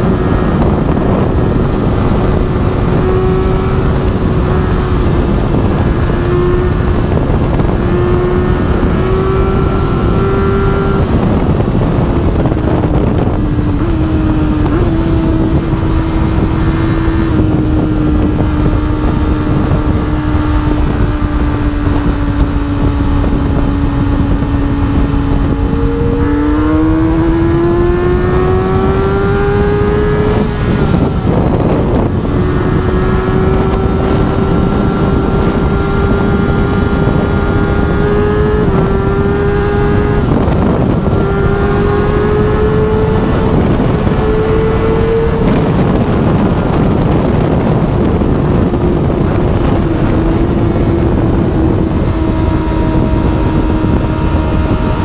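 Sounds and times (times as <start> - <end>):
motorcycle engine at speed: 0.0 - 55.0
wind rush on microphone: 0.0 - 55.0.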